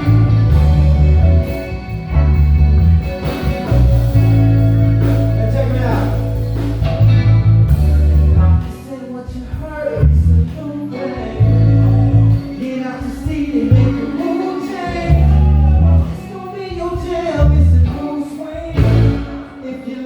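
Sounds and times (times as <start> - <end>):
heavy electric bass line: 0.0 - 12.6, 13.3 - 14.1, 14.9 - 18.0, 18.8 - 19.6
soul band playing: 0.0 - 20.0.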